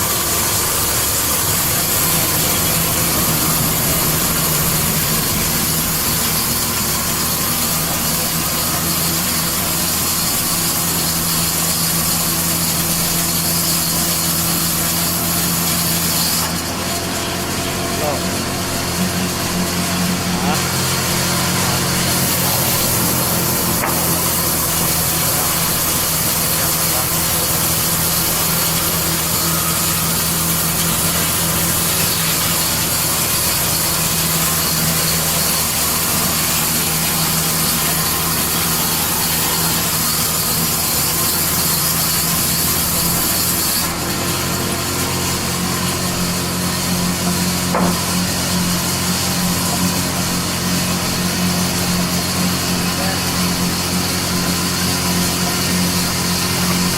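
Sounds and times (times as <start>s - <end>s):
power saw cutting wood: 0.0s - 56.9s.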